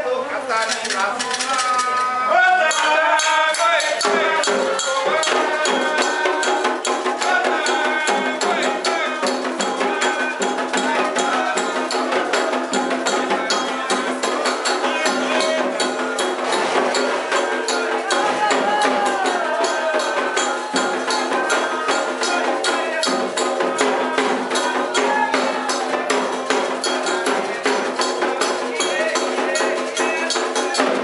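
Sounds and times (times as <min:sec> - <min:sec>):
voices chanting: 0:00.0 - 0:31.0
shaker and rattle percussion: 0:00.4 - 0:31.0.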